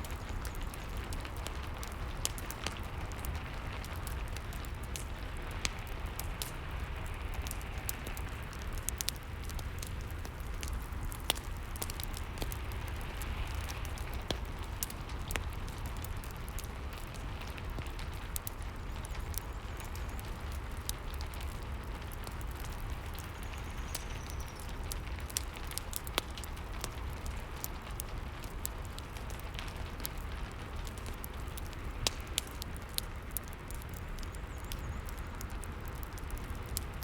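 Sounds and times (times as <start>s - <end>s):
fireplace crackling: 0.0s - 37.0s
steady rain: 0.0s - 37.0s.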